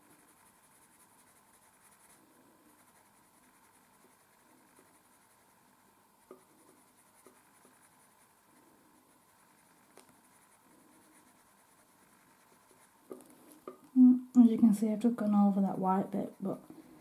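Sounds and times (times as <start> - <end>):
pencil scratching on paper: 0.0 - 13.8, 15.6 - 17.0.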